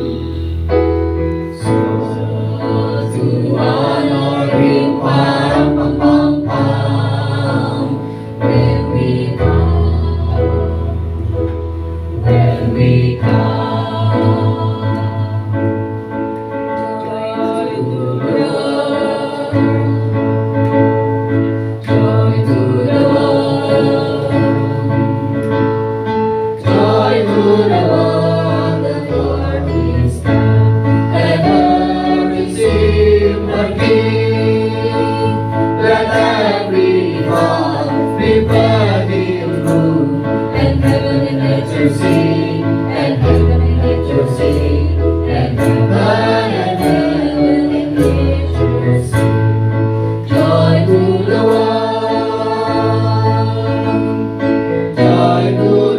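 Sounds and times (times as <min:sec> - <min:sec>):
choir singing: 0:00.0 - 0:15.9, 0:16.8 - 0:21.0, 0:21.8 - 0:25.8, 0:26.5 - 0:49.5, 0:50.2 - 0:55.9
instrumental accompaniment: 0:00.0 - 0:55.9.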